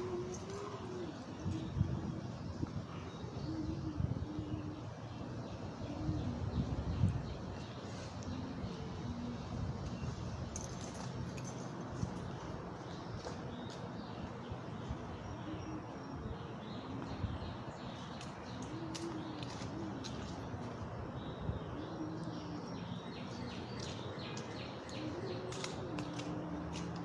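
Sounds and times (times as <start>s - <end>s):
low cooing call: 0.0s - 10.1s, 14.9s - 27.0s
small birds chirping: 2.8s - 27.0s.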